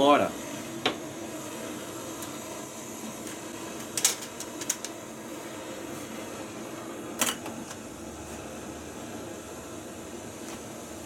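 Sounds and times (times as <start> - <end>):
gas stove burner hissing: 0.0 - 11.0.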